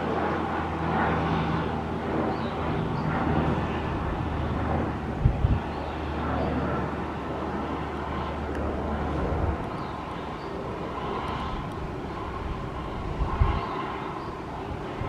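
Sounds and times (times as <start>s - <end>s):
turboprop plane engine: 0.0s - 15.0s.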